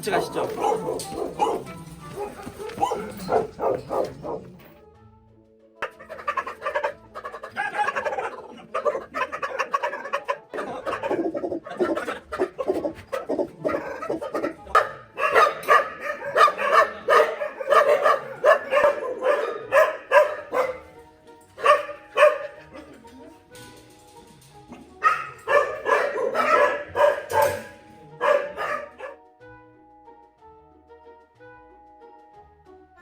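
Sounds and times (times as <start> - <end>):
large dogs barking: 0.0 - 4.8, 5.8 - 23.6, 24.4 - 29.2
background music: 0.0 - 33.0.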